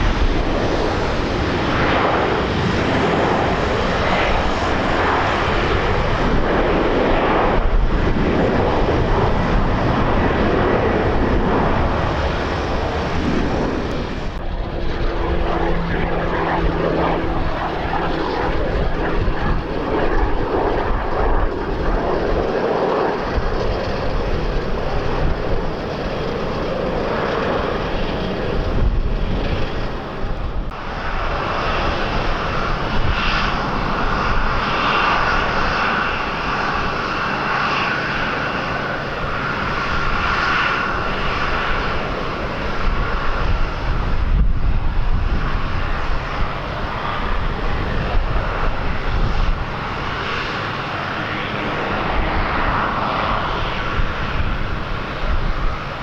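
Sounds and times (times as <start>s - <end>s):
aircraft engines roaring: 0.0s - 56.0s
wind buffeting microphone: 0.0s - 56.0s.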